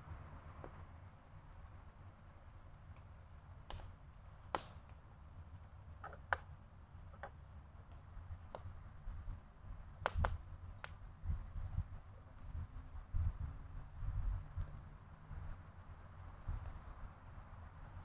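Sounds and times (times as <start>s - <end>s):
campfire crackling: 0.5s - 18.0s.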